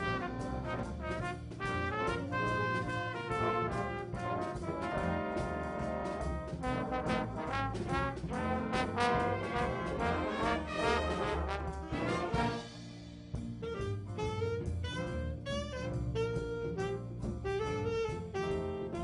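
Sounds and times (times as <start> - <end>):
band playing brass chords: 0.0 - 13.0, 13.6 - 19.0.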